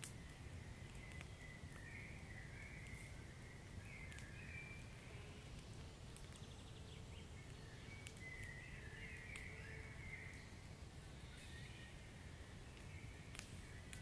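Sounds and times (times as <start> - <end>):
fire crackling and popping: 0.0 - 14.0
fire low rumble: 0.0 - 14.0.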